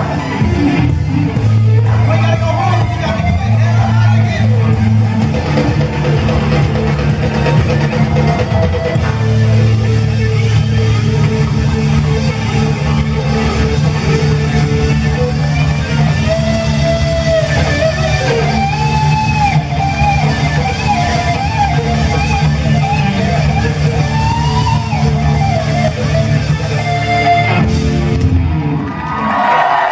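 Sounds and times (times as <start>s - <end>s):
funk band playing: 0.0s - 29.0s
electric guitar bending notes: 0.0s - 29.2s
bass guitar: 0.0s - 29.8s
drums: 0.0s - 29.9s.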